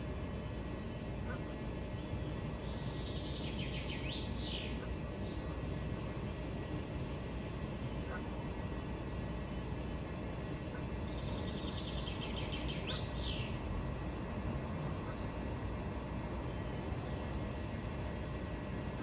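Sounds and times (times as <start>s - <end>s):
low outdoor rumble: 0.0s - 19.0s
small bird singing trills: 0.7s - 6.9s, 9.4s - 19.0s.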